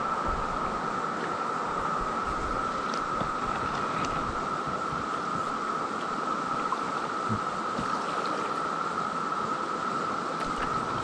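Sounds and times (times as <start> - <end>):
cicadas droning: 0.0 - 11.0
soft noise wash: 0.0 - 11.0.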